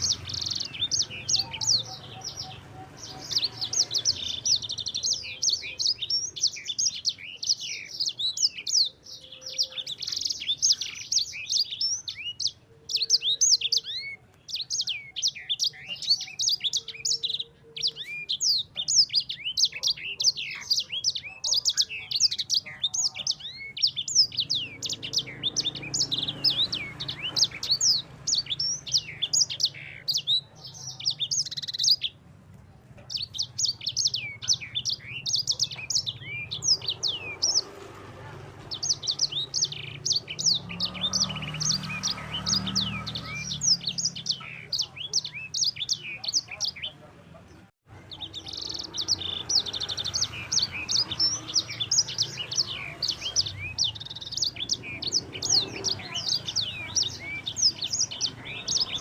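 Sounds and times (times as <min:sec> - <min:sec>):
canary singing chirps and trills: 0:00.0 - 0:59.0.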